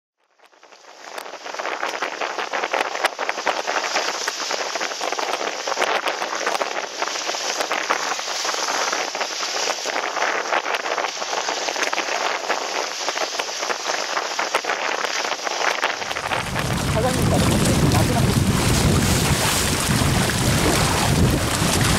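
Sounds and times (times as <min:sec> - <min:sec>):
water splashing against hull: 0:01.0 - 0:21.9.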